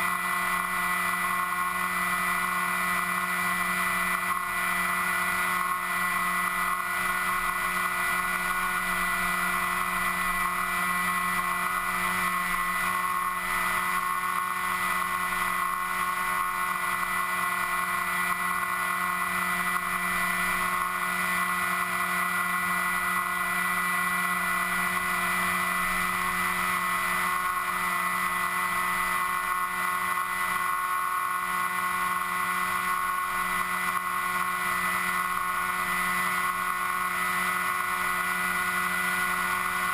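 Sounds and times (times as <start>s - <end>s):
model aircraft motor droning: 0.0s - 39.9s.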